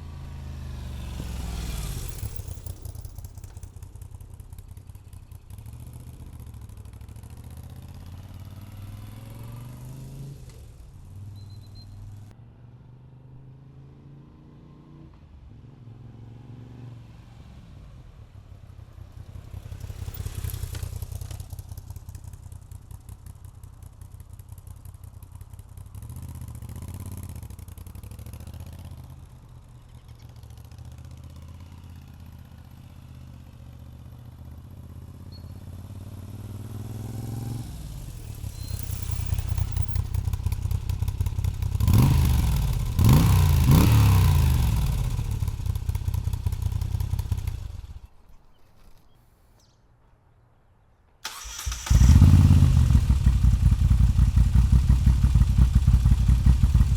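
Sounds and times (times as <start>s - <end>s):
motorcycle engine idling and revving: 0.0s - 49.2s, 50.6s - 56.9s.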